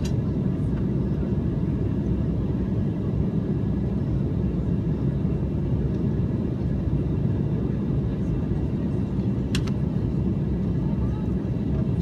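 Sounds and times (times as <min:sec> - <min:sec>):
cabin airflow noise: 0:00.0 - 0:12.0
jet engines rumbling: 0:00.0 - 0:12.0.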